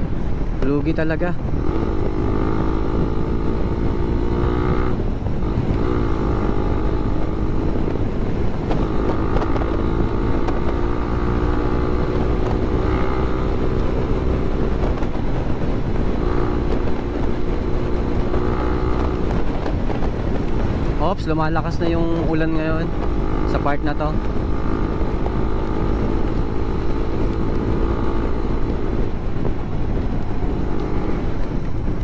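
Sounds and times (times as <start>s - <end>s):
motorcycle engine cruising: 0.0s - 32.0s
wind buffeting microphone: 0.0s - 32.0s.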